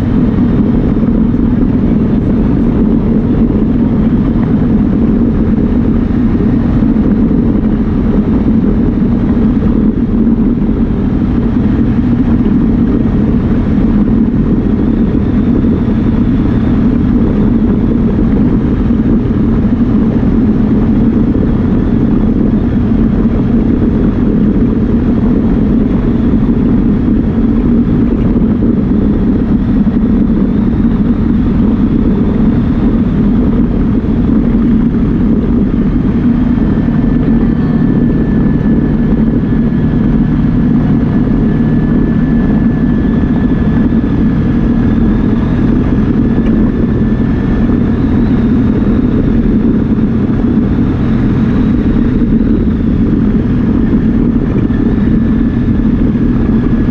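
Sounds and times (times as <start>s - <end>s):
vehicle engine droning: 0.0s - 56.9s.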